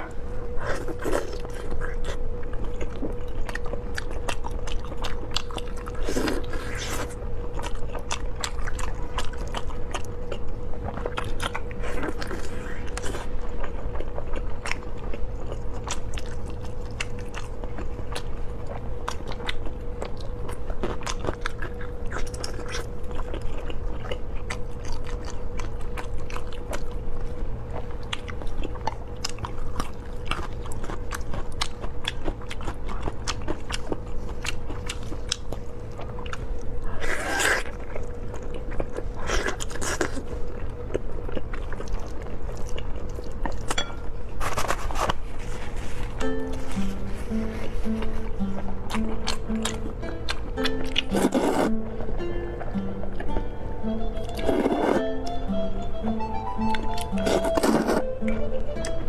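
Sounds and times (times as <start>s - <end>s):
faint steady hum: 0.0s - 59.0s
chewing with mouth clicks: 0.5s - 51.7s, 54.1s - 55.1s, 56.6s - 59.0s.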